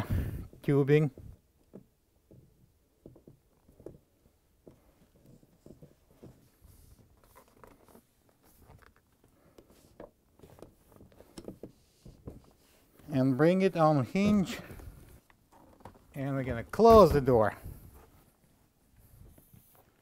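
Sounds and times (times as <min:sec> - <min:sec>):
faint clicks and rubs of tubing: 0:00.5 - 0:16.4, 0:17.5 - 0:20.0.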